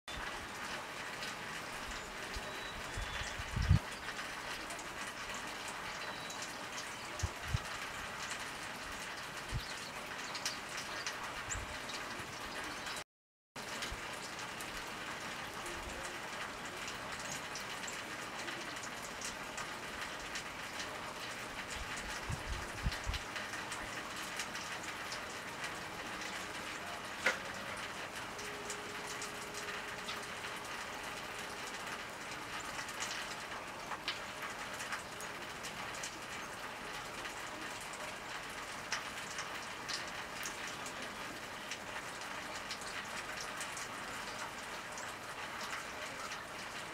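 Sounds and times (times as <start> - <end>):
steady outdoor hiss: 0.1 - 13.0, 13.6 - 46.9
small clicks and ticks: 3.5 - 13.0, 13.6 - 46.9.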